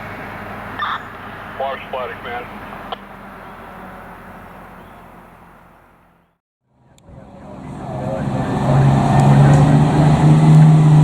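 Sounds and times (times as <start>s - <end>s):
traffic noise: 0.0s - 11.0s
vehicle engine low drone: 0.0s - 11.0s.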